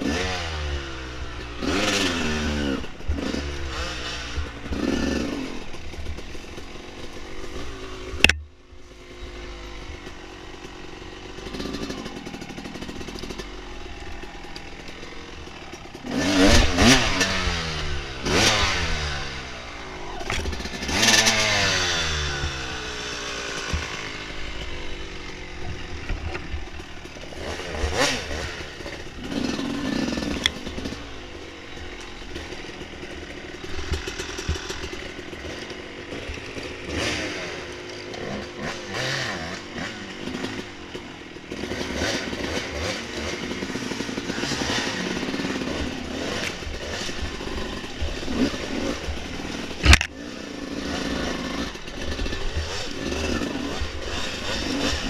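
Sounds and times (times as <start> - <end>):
dirt bike engine revving: 0.0 - 55.0
knocks and clatter over rough ground: 1.2 - 55.0.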